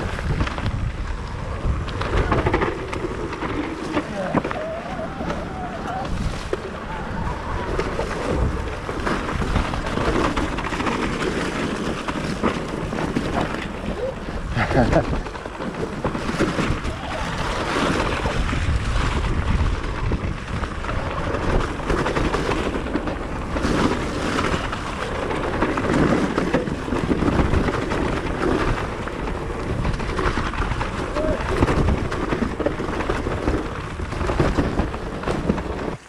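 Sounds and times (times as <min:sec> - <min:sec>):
bike tyre and frame rattle: 0:00.0 - 0:36.0
wind buffeting microphone: 0:00.0 - 0:36.0.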